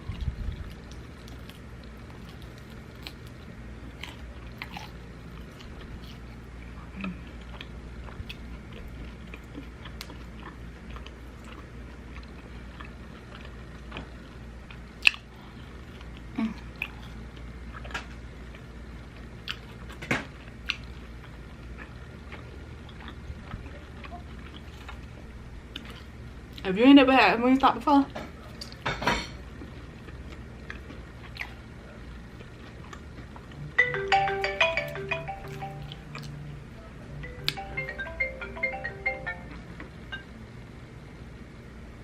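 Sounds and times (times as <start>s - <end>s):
chewing crunchy fried food: 0.0s - 26.7s, 27.5s - 33.7s, 35.5s - 36.6s.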